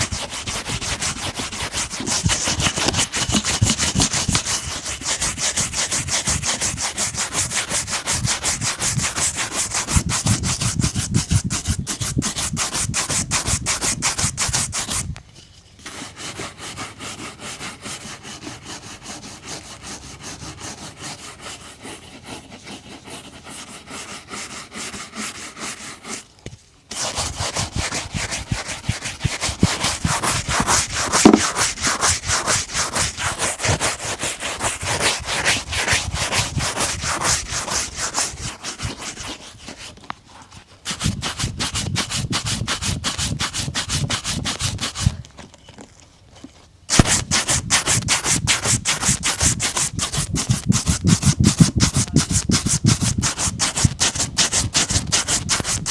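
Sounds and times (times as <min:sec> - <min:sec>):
rubbing strokes on a boot: 0:00.0 - 0:26.3, 0:26.9 - 0:45.2, 0:46.9 - 0:55.9.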